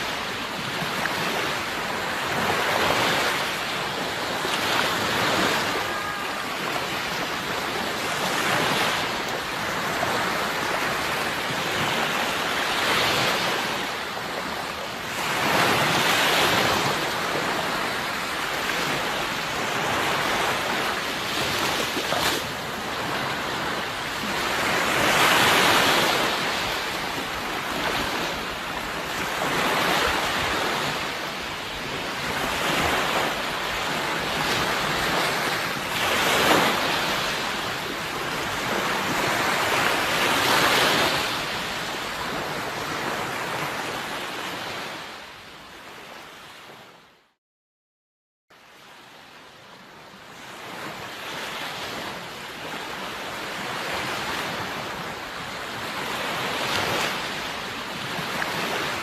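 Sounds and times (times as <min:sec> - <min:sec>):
sea waves breaking on shore: 0:00.0 - 0:47.2, 0:48.6 - 0:59.0.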